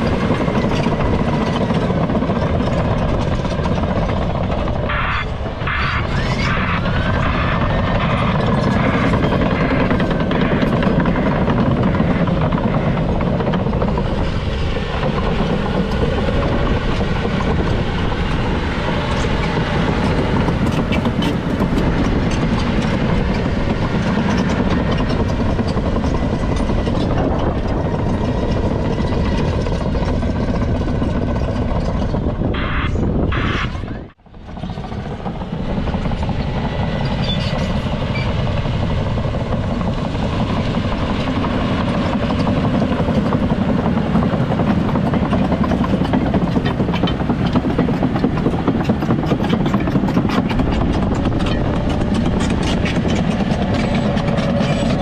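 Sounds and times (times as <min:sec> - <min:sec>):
diesel engine under load: 0:00.0 - 0:55.0
steel tracks clanking: 0:04.7 - 0:55.0.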